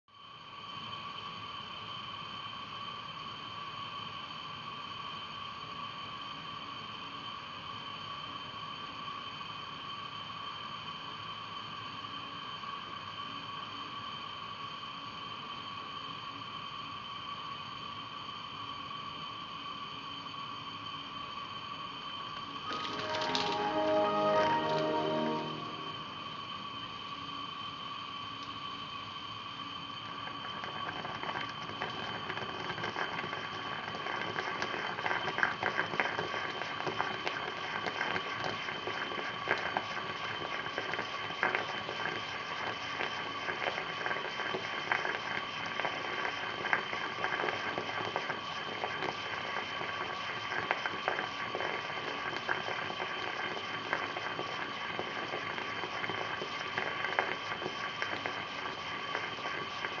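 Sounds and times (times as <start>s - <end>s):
moka pot gurgling and sputtering: 0.1s - 22.6s, 28.2s - 60.0s.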